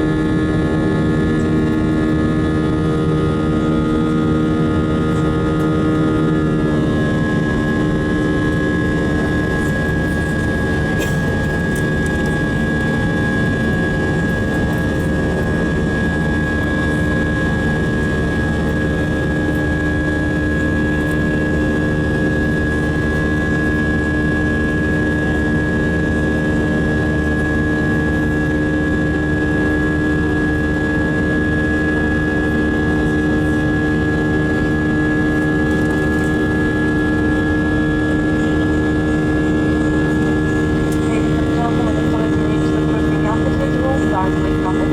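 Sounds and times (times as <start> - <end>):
high engine whine: 0.0 - 44.9
jet engines in flight: 0.0 - 44.9.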